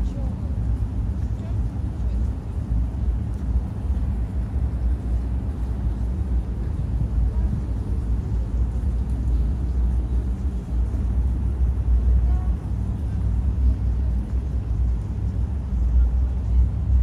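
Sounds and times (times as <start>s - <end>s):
low city background rumble: 0.0s - 17.0s.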